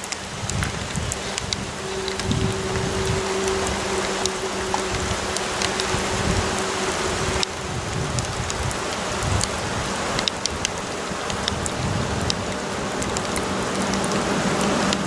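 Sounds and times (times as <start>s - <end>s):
faint steady hum: 0.0s - 15.0s
raindrops pattering close by: 0.0s - 15.0s
steady rain falling: 0.0s - 15.0s.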